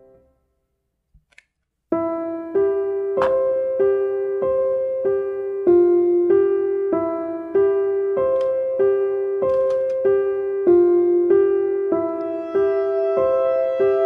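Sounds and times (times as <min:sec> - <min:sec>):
gentle electric piano melody: 0:02.0 - 0:14.0.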